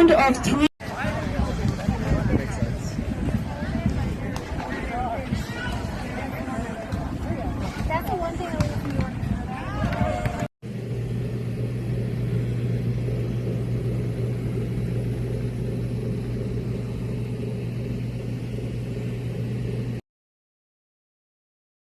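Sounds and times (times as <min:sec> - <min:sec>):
low motor rumble and hum: 0:00.0 - 0:20.0.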